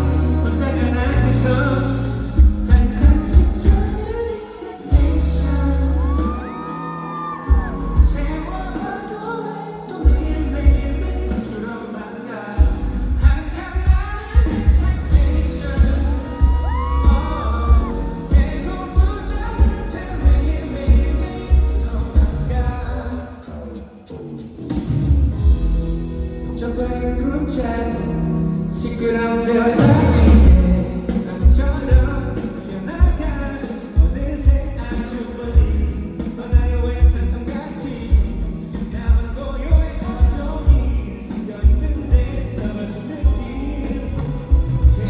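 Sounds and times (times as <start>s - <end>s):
loud pop song: 0.0s - 45.0s.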